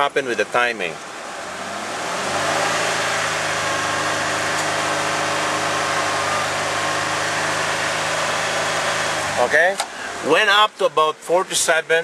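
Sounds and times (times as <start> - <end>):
car engine revving: 0.4 - 10.3.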